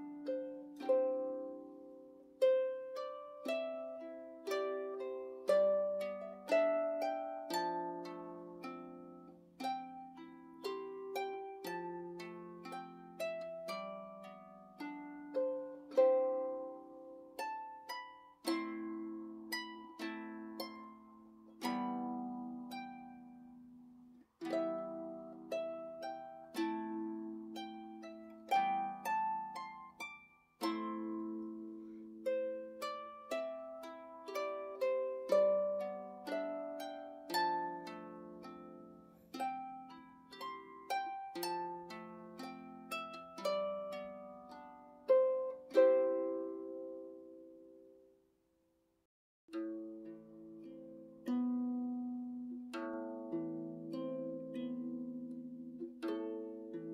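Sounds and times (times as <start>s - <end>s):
harp melody: 0.0s - 48.2s, 49.5s - 56.9s.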